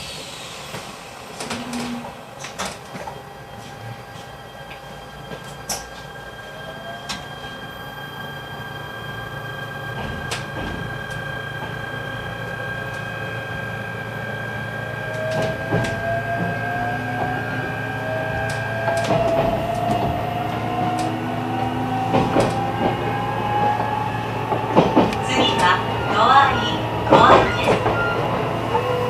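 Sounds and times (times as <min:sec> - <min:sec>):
electric train motor whine: 0:00.0 - 0:29.0
steady high tone: 0:03.2 - 0:29.0.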